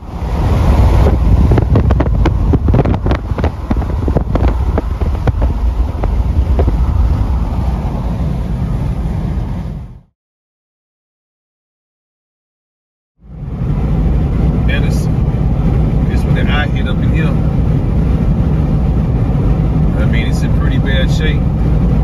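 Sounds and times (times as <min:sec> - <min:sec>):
road and wind rumble in vehicle: 0:00.0 - 0:10.1, 0:13.2 - 0:22.0.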